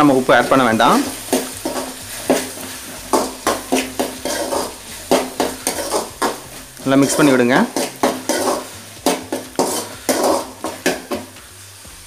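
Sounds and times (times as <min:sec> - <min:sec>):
metal spatula scraping pan: 0:00.0 - 0:11.6
light sizzle of frying: 0:00.0 - 0:12.0.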